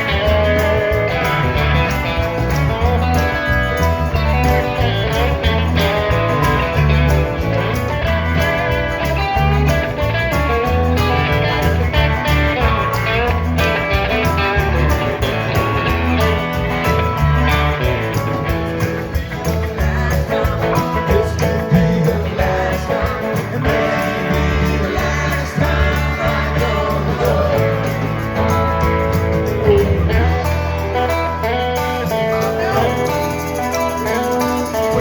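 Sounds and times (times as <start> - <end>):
bass guitar: 0.0 - 35.0
drums: 0.0 - 35.0
electric guitars: 0.0 - 35.0.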